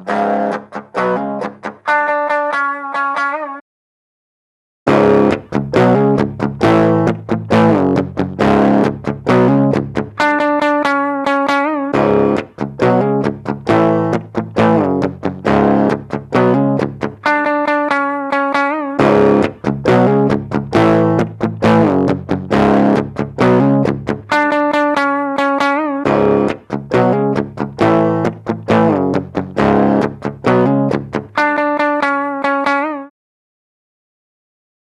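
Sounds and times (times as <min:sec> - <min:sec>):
distorted electric guitar riff: 0:00.0 - 0:03.6, 0:04.9 - 0:33.1.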